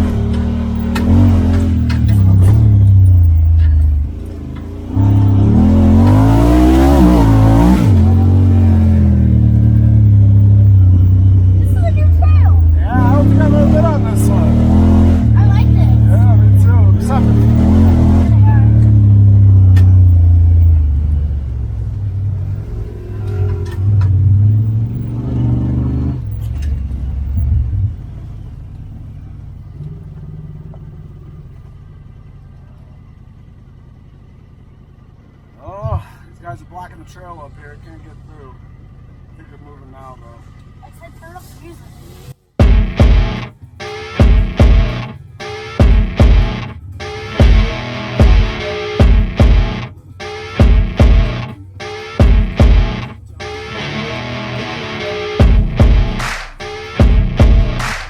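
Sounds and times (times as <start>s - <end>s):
utility vehicle engine revving: 0.0s - 35.9s, 41.8s - 58.0s.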